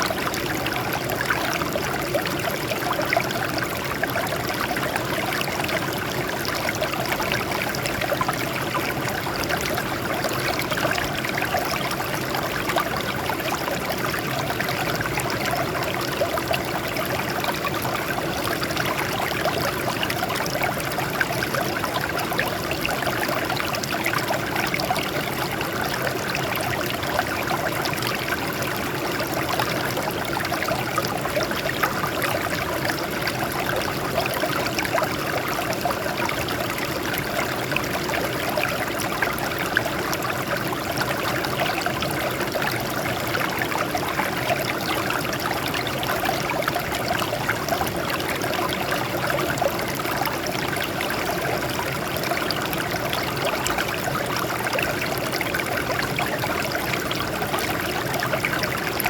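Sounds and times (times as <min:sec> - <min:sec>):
water trickling over rocks: 0:00.0 - 0:59.0.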